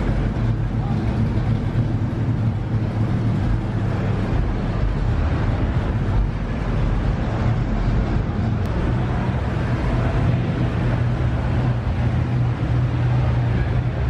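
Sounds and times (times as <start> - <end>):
low vehicle rumble: 0.0 - 14.0
wind noise on microphone: 0.0 - 14.0.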